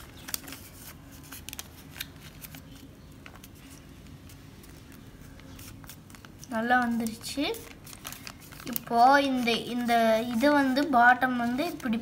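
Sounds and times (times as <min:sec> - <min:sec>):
paper being folded and creased: 0:00.0 - 0:12.0.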